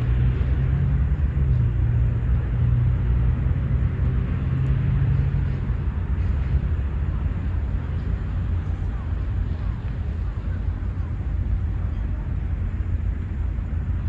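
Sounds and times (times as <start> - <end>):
motor vehicle engine rumble: 0.0 - 14.0.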